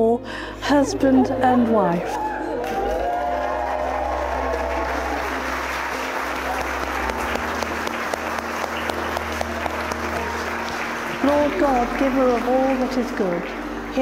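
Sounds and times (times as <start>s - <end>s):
music: 0.0s - 14.0s
crowd clapping steadily: 2.0s - 14.0s.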